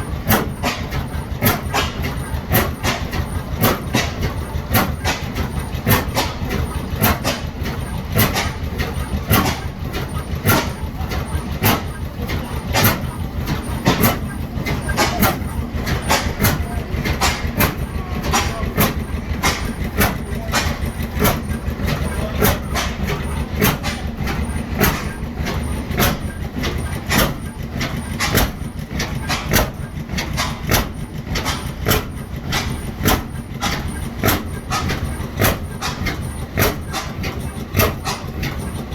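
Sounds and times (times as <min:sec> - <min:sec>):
gas engine running with sharp beats: 0:00.0 - 0:38.9.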